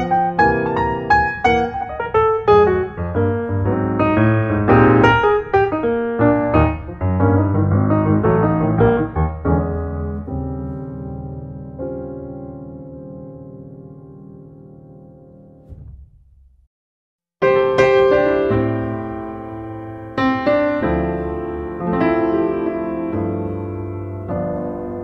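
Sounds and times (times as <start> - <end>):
piano music: 0.0 - 16.3, 17.4 - 25.0.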